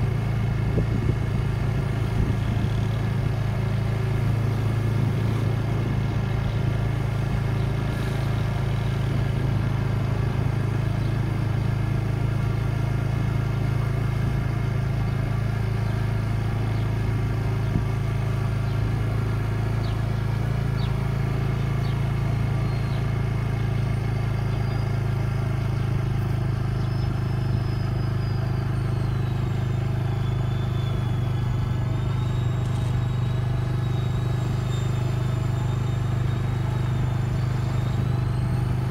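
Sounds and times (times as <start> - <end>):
road noise: 0.0 - 38.9
vehicle engine hum: 0.0 - 38.9.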